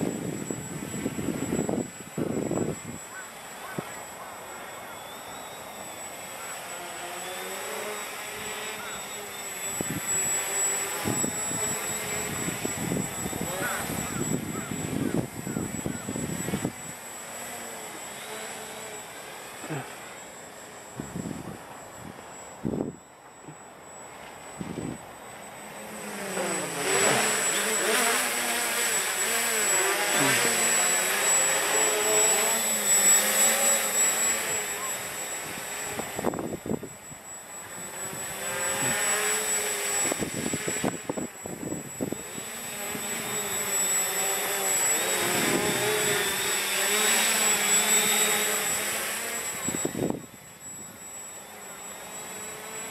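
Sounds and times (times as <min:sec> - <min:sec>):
drone propellers humming: 0:00.0 - 0:52.9
quadcopter motors buzzing: 0:00.0 - 0:52.9.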